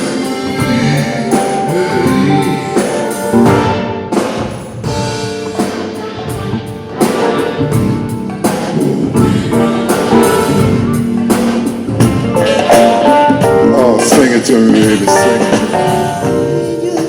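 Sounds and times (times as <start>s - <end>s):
drum kit beat: 0.0s - 17.0s
guitar: 0.0s - 17.0s
live band playing soul music: 0.0s - 17.0s.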